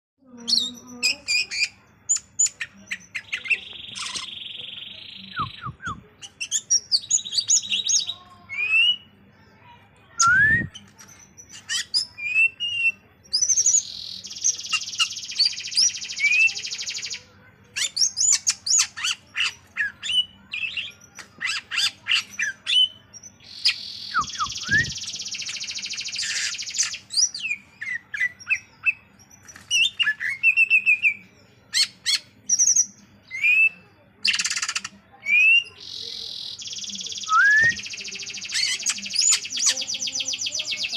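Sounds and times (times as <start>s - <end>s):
bird singing chirps and whistles: 0.5s - 9.1s, 10.2s - 17.1s, 17.8s - 40.9s.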